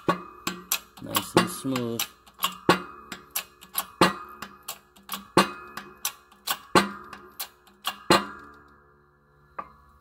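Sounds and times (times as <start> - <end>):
press sharp metallic clicks: 0.0 - 8.6.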